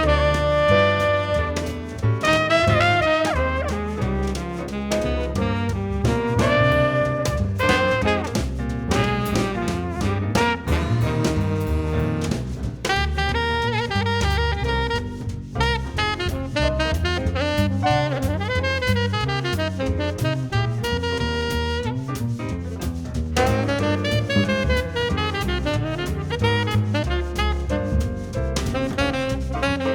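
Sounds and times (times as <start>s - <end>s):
jazz music with saxophone and brass: 0.0s - 29.9s.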